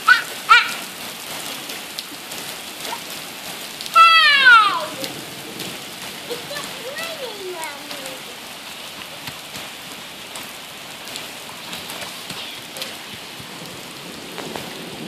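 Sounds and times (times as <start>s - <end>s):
heavy rain on wet pavement: 0.0s - 15.0s.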